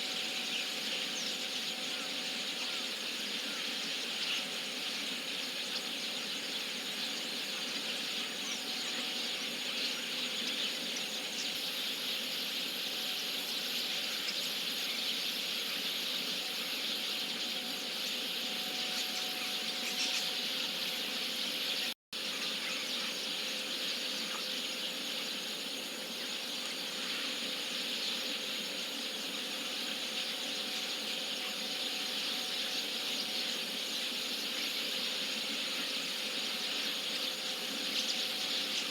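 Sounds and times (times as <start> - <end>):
flock of starlings chattering: 0.0 - 38.9.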